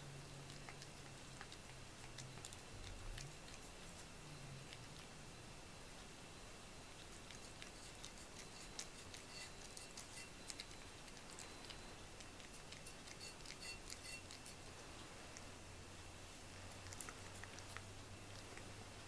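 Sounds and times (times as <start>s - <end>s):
cat licking and chewing food: 0.0s - 19.0s.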